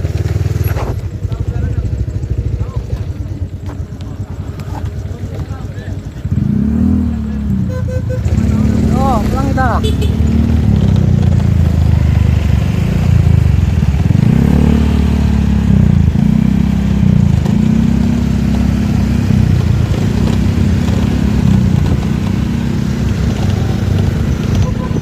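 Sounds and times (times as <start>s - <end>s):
motorcycle engine riding: 0.0s - 25.0s.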